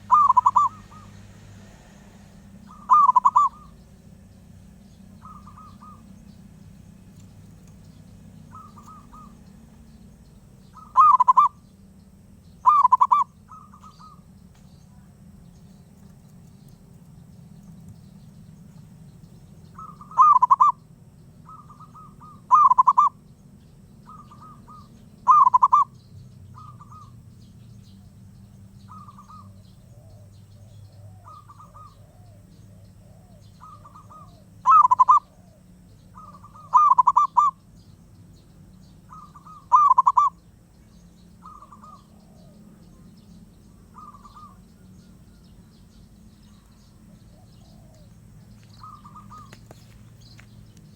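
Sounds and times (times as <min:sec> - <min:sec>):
doves cooing: 0:00.0 - 0:12.0, 0:12.6 - 0:23.3, 0:24.0 - 0:37.8, 0:38.9 - 0:50.9.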